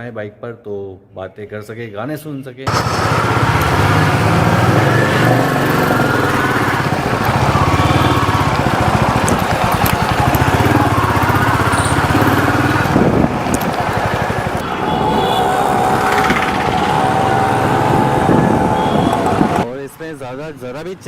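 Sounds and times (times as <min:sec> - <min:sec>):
motorcycle engine running: 0:02.7 - 0:19.7.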